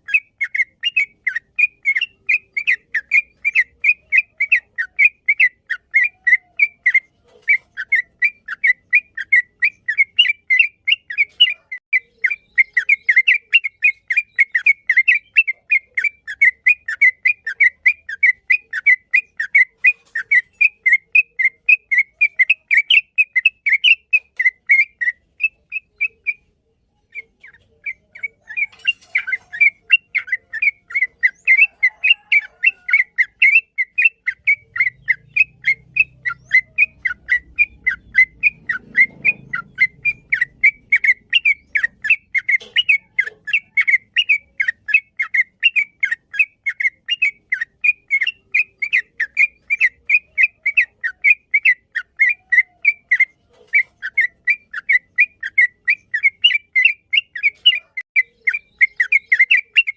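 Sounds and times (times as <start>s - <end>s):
bird singing fast repeated notes: 0.0s - 59.9s.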